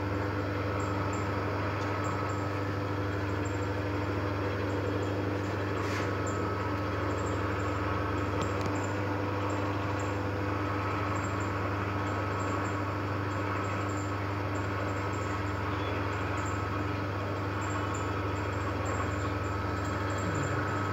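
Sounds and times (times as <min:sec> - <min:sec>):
machine motor hum: 0:00.0 - 0:20.9.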